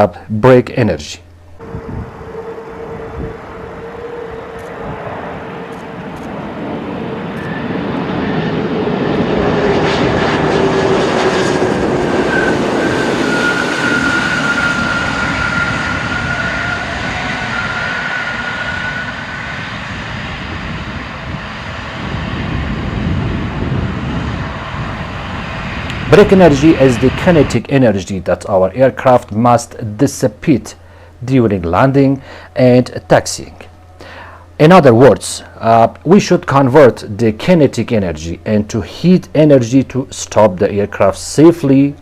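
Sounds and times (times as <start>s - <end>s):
engine whines falling in pitch: 1.3s - 42.0s
jet engines roaring: 1.4s - 42.0s.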